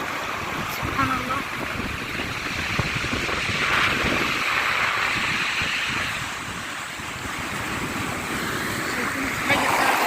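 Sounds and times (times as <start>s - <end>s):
sea surf washing on beach: 0.0s - 10.0s
wind buffeting microphone: 0.0s - 10.0s.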